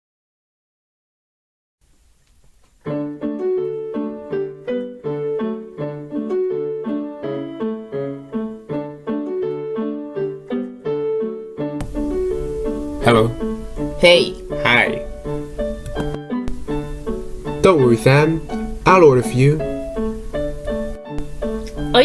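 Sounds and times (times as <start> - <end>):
piano tune of repeated notes: 2.8 - 22.0.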